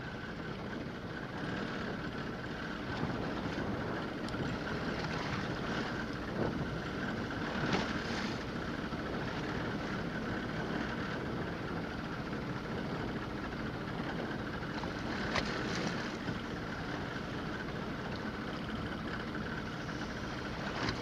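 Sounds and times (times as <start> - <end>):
boat engine running: 0.0 - 21.0
water noise: 0.0 - 21.0
wind: 0.0 - 21.0.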